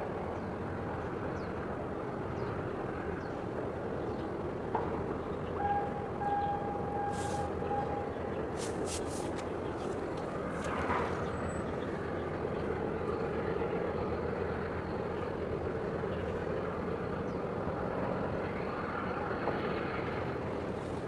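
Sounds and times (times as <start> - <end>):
low engine rumble: 0.1 - 21.0.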